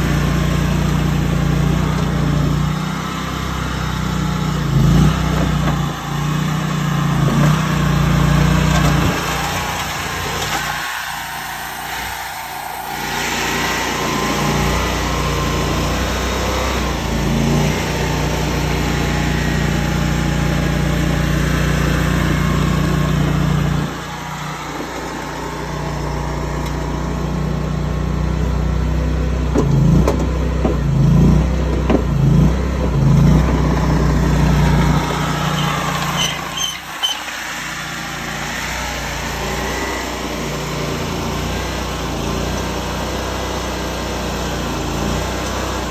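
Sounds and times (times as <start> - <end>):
skid steer engine droning: 0.0 - 45.9.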